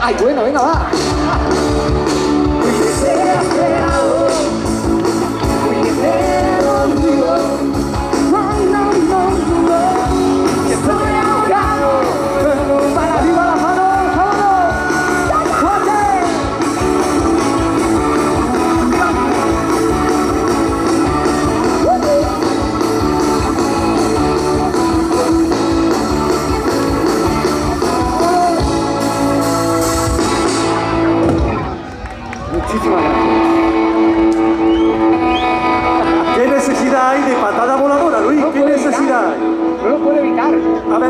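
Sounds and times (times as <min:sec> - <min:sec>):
live pop-rock band: 0:00.0 - 0:41.0.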